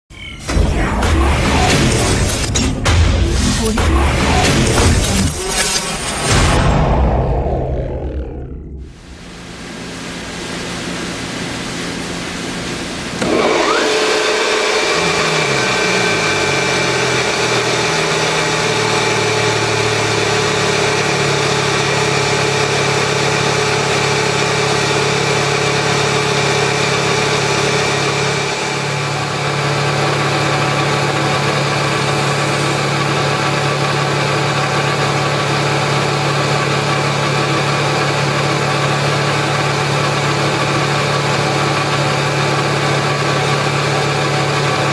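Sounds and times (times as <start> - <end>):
air compressor humming: 0.2 - 44.9.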